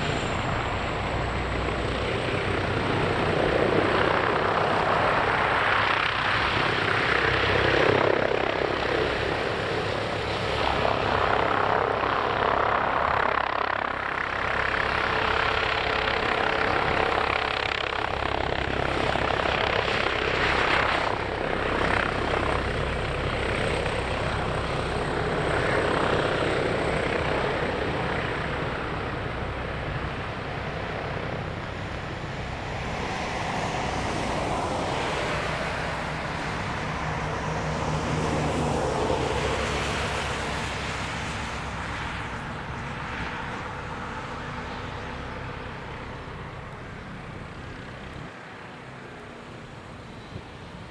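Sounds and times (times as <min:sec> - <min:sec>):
helicopter rotor beat: 0:00.0 - 0:50.9
turbine engine whine: 0:00.0 - 0:50.9.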